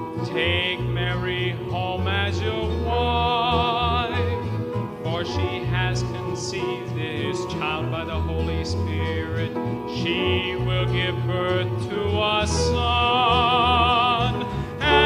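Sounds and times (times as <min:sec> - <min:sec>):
bass line: 0:00.0 - 0:15.0
instrumental accompaniment: 0:00.0 - 0:15.0
person singing with vibrato: 0:00.0 - 0:15.0.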